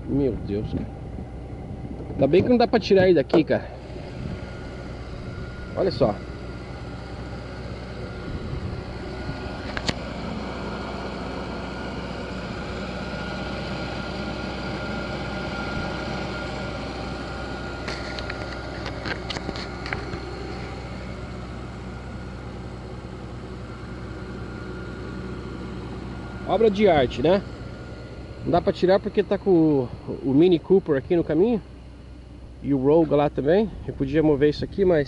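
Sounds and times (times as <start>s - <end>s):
car engine idling with high whine: 0.0s - 35.0s.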